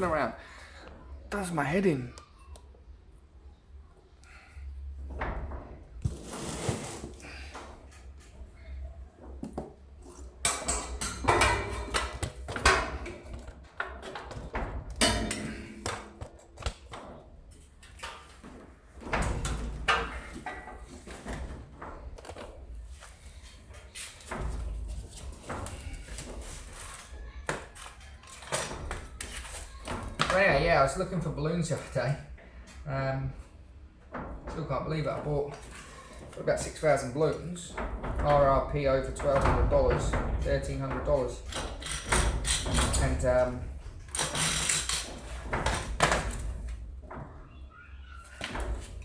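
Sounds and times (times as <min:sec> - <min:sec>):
tools clattering and knocking: 0:05.1 - 0:32.8, 0:34.0 - 0:47.6.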